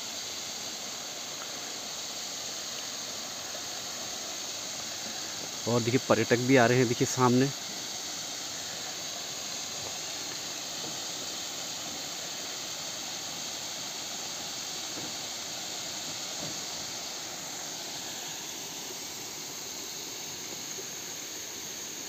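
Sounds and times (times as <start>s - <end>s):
waterfall rushing: 3.4s - 22.0s.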